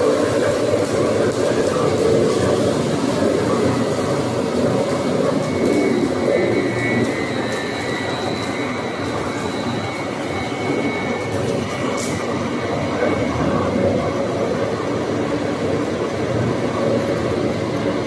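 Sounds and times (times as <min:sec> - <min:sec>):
thin high whine: 0:00.0 - 0:18.0.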